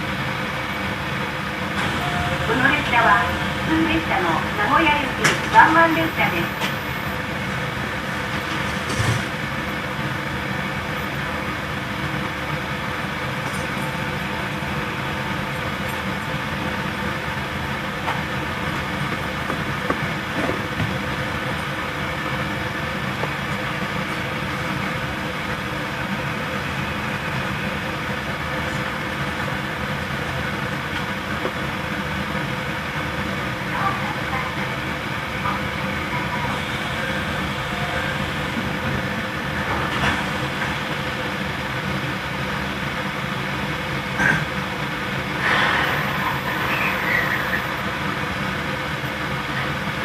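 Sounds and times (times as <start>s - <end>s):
train air conditioning running: 0.0s - 50.0s.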